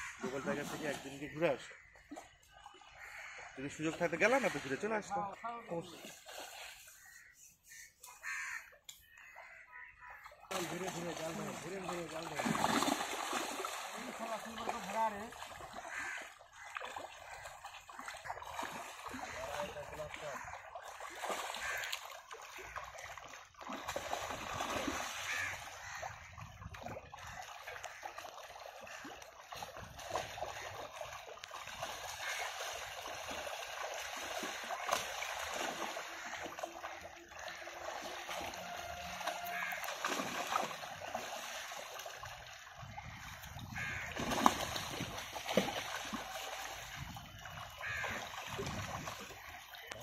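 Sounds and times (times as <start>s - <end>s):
fish thrashing and splashing water: 0.0s - 7.3s, 10.3s - 50.0s.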